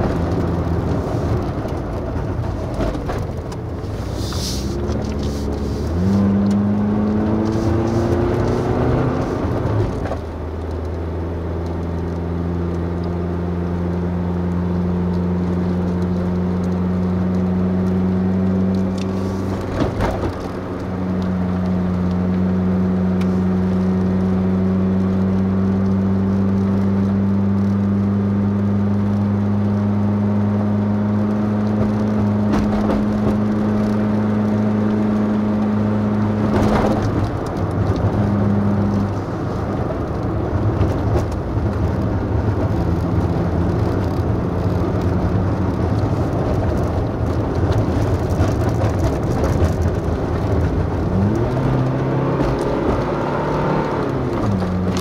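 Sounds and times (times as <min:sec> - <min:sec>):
vehicle engine climbing: 0:00.0 - 0:55.0.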